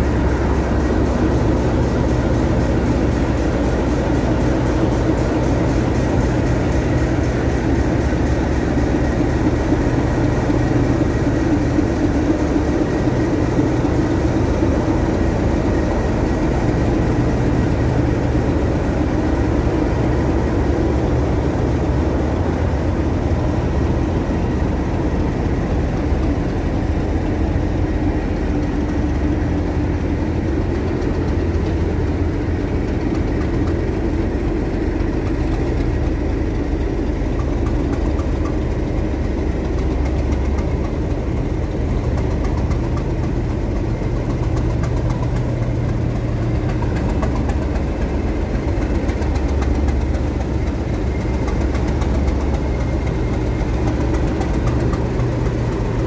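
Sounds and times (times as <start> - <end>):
diesel locomotive engine idling: 0.0 - 56.0.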